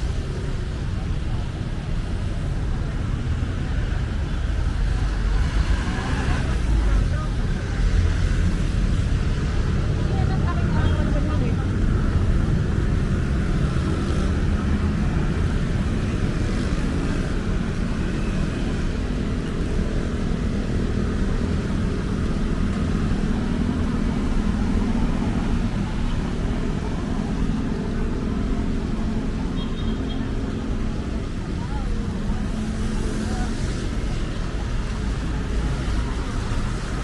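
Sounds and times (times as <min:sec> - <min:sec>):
city street traffic rumble: 0:00.0 - 0:37.0.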